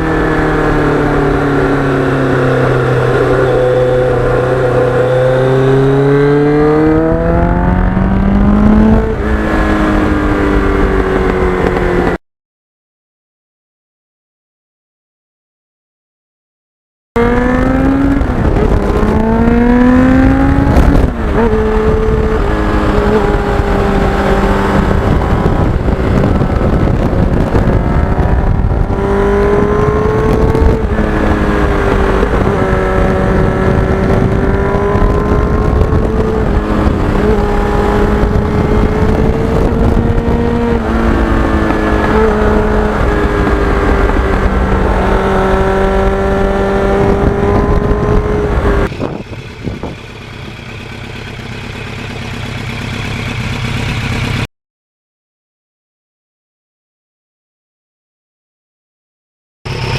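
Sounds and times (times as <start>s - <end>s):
motorcycle engine revving and shifting: 0.0s - 12.2s, 17.2s - 54.5s.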